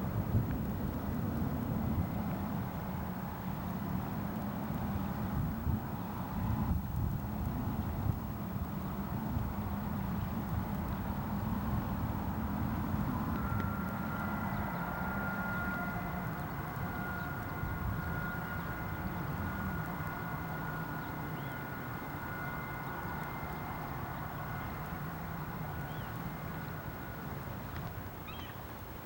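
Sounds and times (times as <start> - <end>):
engine drone with whine: 0.0 - 29.0.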